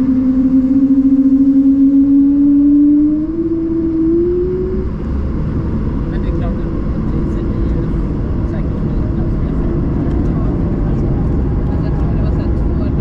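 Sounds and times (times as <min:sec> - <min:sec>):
jet engine hum in cabin: 0:00.0 - 0:13.0
rumbling background: 0:00.0 - 0:13.0.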